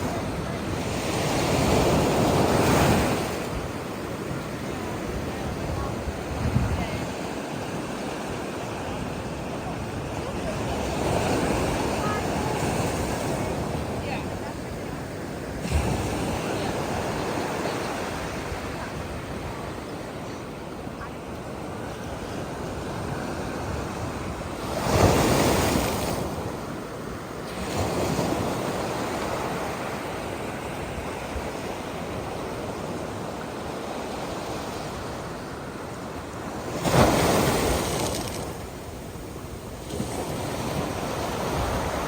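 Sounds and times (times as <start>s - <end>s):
waves washing: 0.0s - 42.0s.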